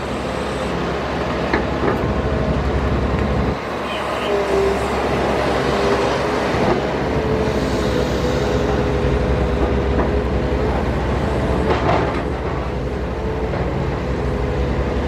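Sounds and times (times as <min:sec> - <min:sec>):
excavator diesel engine under load: 0:00.0 - 0:15.0.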